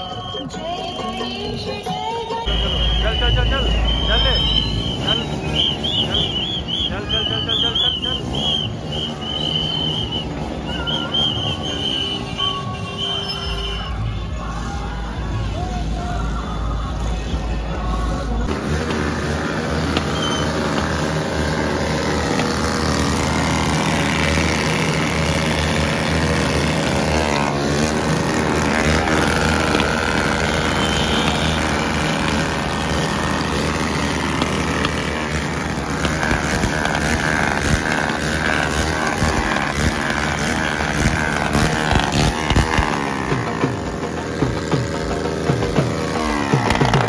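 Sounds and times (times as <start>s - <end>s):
traffic engines running: 0.0s - 47.0s.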